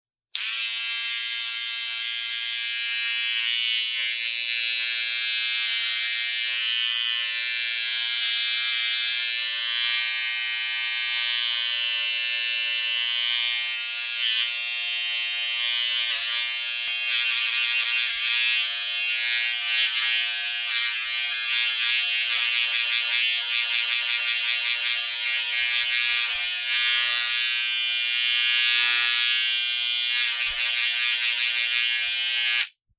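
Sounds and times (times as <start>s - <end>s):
electric shaver buzzing: 0.3s - 32.8s.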